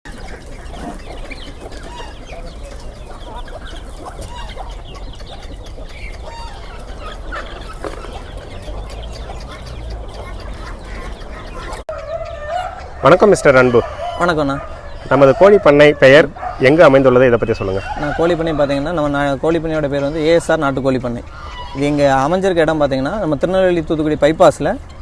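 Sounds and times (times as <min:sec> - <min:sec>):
chickens clucking: 0:00.1 - 0:25.0.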